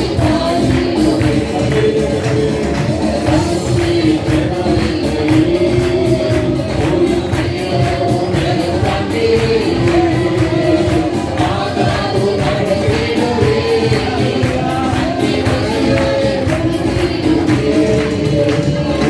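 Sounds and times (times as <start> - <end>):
group singing worship song: 0.0 - 19.0
steady percussive beat: 0.0 - 19.0.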